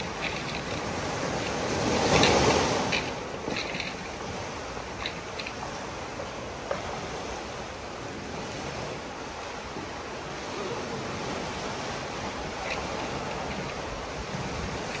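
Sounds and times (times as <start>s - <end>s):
surf washing up pebble beach: 0.0s - 15.0s.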